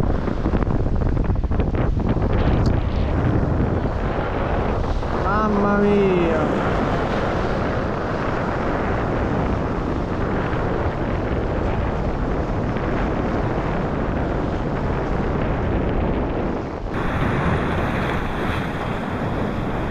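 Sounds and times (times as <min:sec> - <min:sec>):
wind buffeting microphone: 0:00.0 - 0:19.9
surf washing against rocks: 0:01.6 - 0:16.2, 0:16.8 - 0:19.9.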